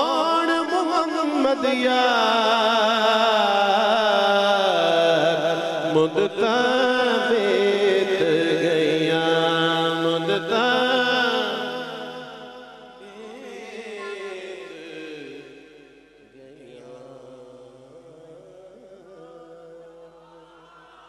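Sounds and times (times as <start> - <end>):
man singing devotional melody: 0.0 - 21.0.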